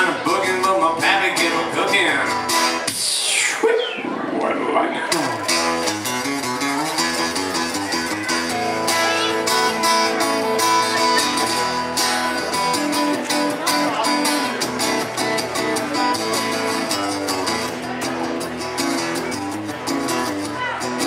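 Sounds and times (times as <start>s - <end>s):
live country guitar music: 0.0s - 21.0s.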